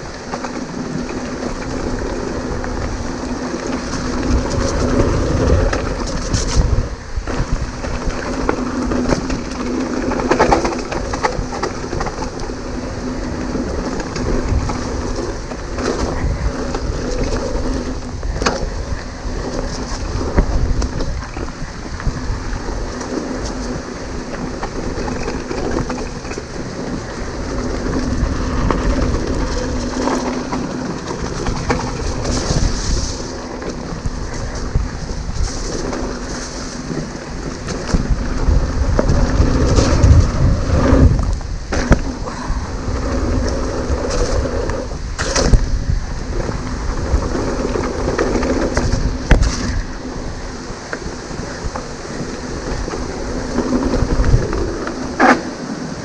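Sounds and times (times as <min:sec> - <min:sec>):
bike tyres rumbling and rattling: 0:00.0 - 0:56.0
wind rushing over microphone: 0:00.0 - 0:56.0.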